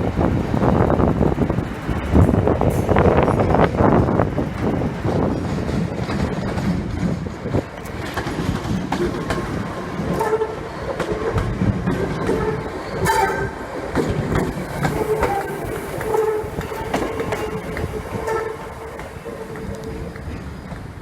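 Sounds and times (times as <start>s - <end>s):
train rail clatter: 0.0s - 21.0s.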